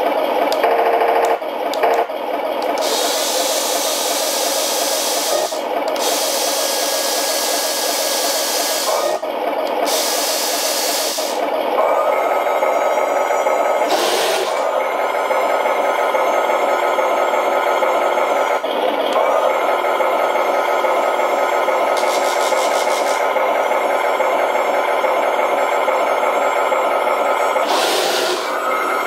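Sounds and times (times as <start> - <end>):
model tanks mechanical whir: 1.7 - 29.0.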